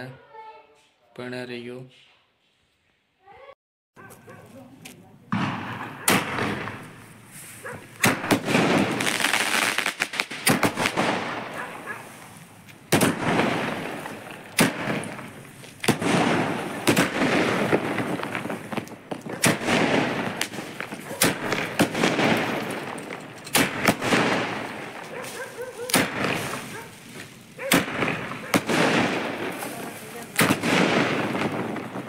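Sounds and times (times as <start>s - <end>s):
fireworks bangs: 4.0s - 32.0s
crackling fizz of sparks: 5.8s - 32.0s.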